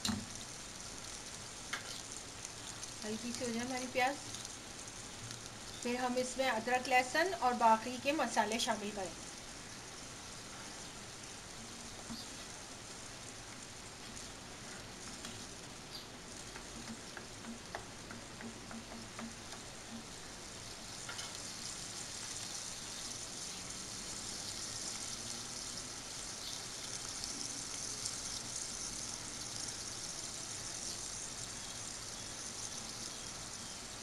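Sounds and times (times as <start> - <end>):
onion sizzling in hot oil: 0.0 - 34.0.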